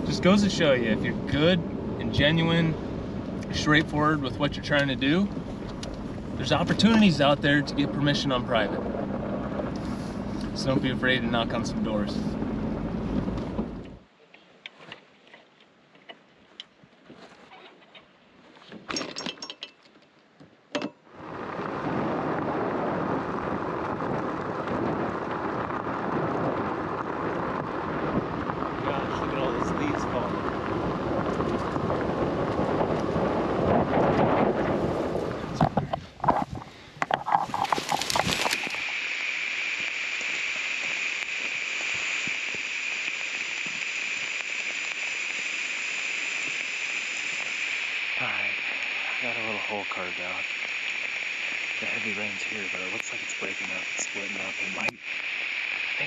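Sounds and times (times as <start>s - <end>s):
heavy rain: 0.0s - 14.1s, 21.1s - 35.7s, 37.5s - 56.0s.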